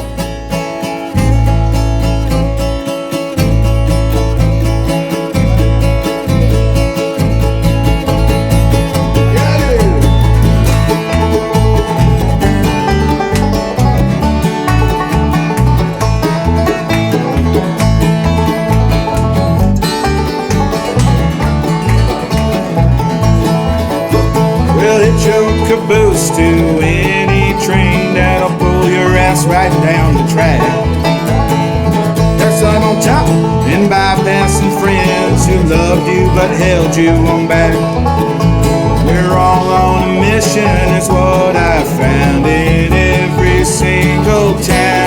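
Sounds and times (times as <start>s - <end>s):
acoustic guitar: 0.0s - 45.0s
bass line: 0.0s - 45.0s
fast banjo picking: 0.0s - 45.0s.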